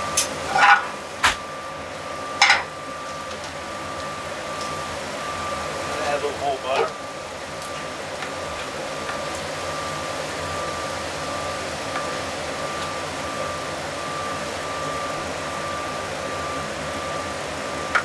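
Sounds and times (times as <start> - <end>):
cauliflower sizzling in a pan: 0.0 - 18.0
gas range and ventilation rushing: 0.0 - 18.0
thin whine: 0.0 - 18.0.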